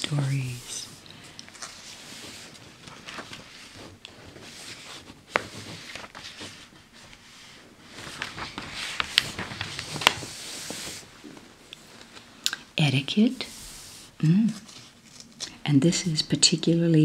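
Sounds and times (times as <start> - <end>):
paper pages rustling: 0.0 - 12.3, 13.3 - 15.6.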